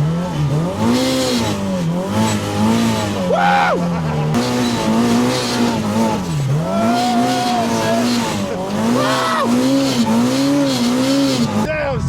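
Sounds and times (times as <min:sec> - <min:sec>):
vehicle engine revving under load: 0:00.0 - 0:11.7.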